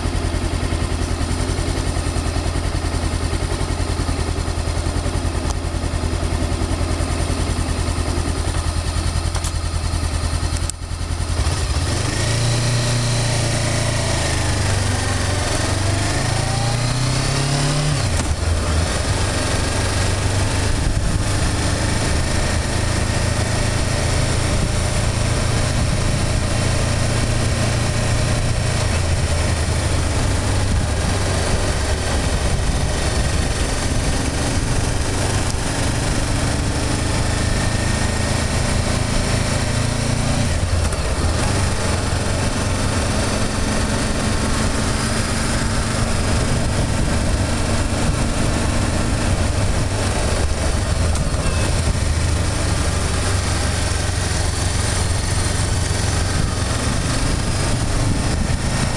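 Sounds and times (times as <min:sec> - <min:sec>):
motorcycle engine: 0:00.0 - 0:58.9.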